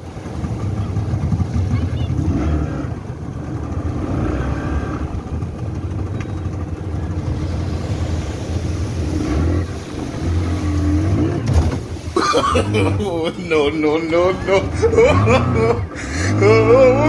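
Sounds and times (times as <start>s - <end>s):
outboard motor running: 0.0s - 17.0s
water rushing past hull: 0.0s - 17.0s.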